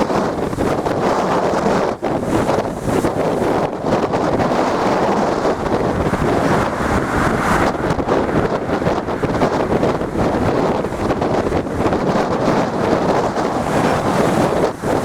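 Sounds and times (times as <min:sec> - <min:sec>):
stormy sea waves: 0:00.0 - 0:15.0
wind buffeting microphone: 0:00.0 - 0:15.0.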